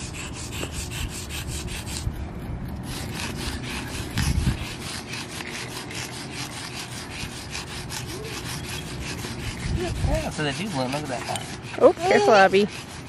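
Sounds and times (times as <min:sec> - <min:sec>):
chalk scraping on concrete: 0:00.0 - 0:13.0.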